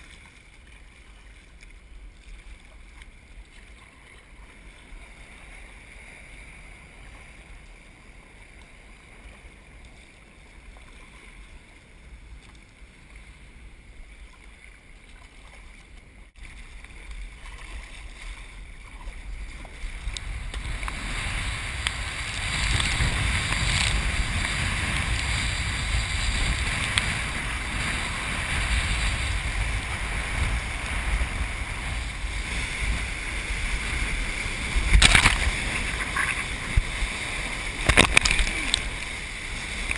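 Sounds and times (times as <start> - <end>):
waves breaking: 0.0 - 39.9
wind: 0.0 - 39.9.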